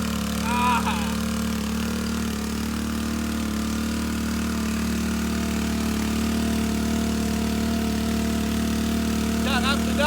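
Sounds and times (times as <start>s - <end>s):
four-stroke engine running steadily: 0.0s - 10.0s.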